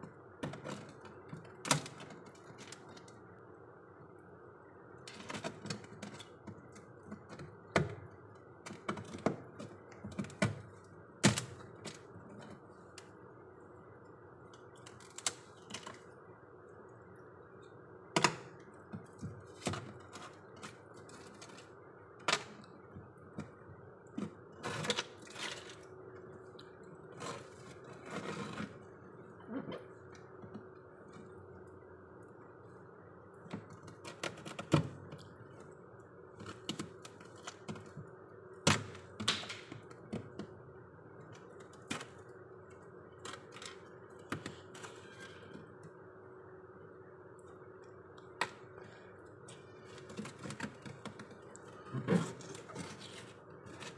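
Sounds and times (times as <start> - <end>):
steady freezer hum: 0.0 - 53.9.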